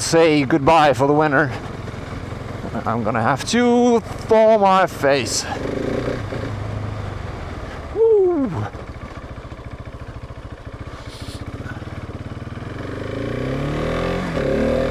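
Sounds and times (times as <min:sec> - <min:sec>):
motorcycle engine running: 0:00.0 - 0:14.9.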